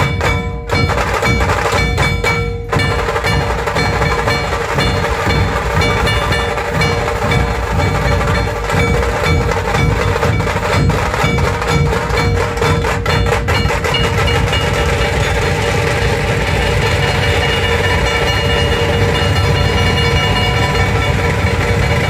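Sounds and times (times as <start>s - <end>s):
dhol and tasha drumming: 0.0s - 22.0s
sustained ringing tone: 1.8s - 22.0s.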